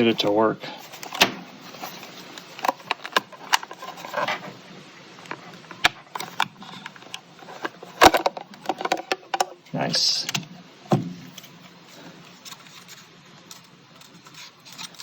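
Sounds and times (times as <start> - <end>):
hands handling plastic enclosure: 0.8 - 4.6, 5.2 - 15.0.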